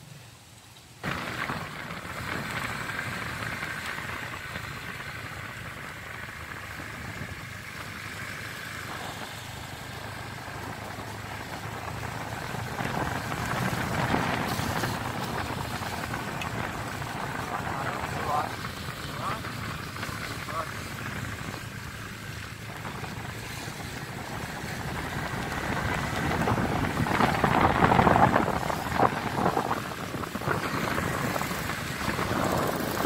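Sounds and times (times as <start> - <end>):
road noise: 0.0 - 33.0
vehicle engine hum: 0.0 - 33.0.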